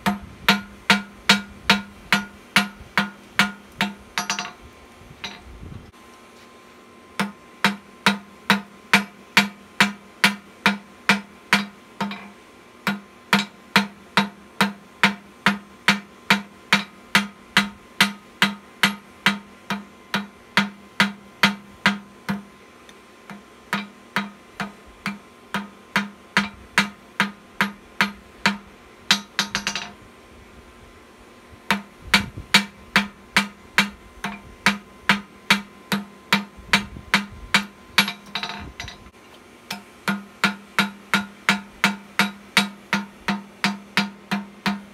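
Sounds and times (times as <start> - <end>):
hammer striking steel on anvil: 0.0 - 4.6, 7.2 - 22.5, 23.3 - 30.0, 31.7 - 39.0, 39.7 - 44.9.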